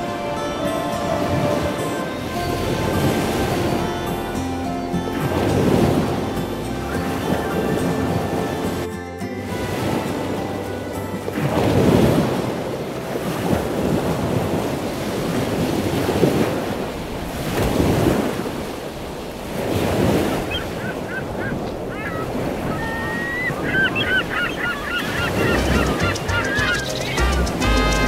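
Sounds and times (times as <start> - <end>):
surf breaking on beach: 0.0 - 28.0.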